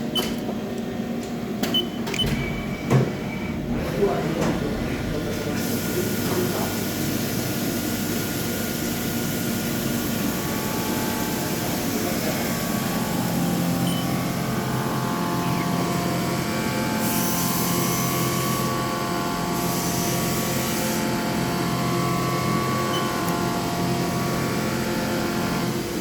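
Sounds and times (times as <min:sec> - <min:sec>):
milling machine humming: 0:00.1 - 0:26.0.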